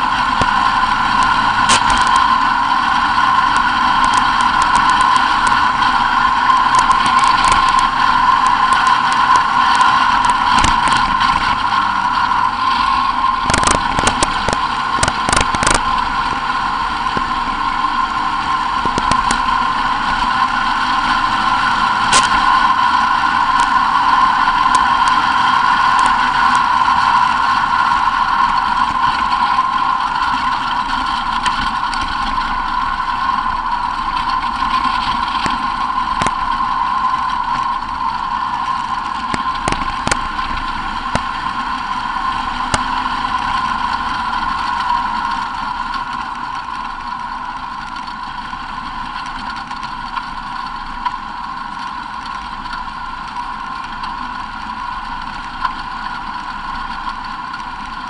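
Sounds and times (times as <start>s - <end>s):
race car engine running: 0.0s - 58.0s.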